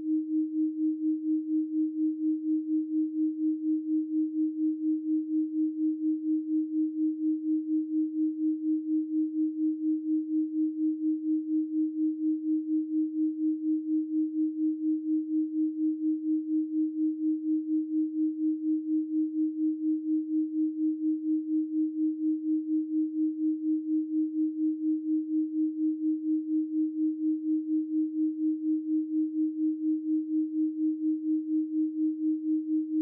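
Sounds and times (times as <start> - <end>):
pulsing sine tone hum: 0.0 - 33.0.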